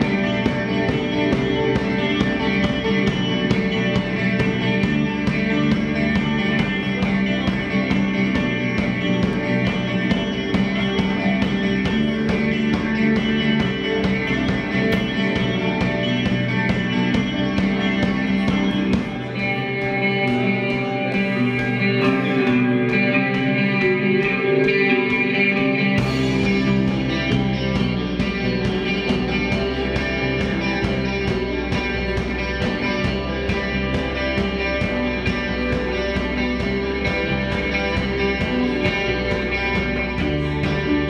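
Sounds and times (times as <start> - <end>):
drum kit beat: 0.0 - 41.0
electric guitars: 0.0 - 41.0.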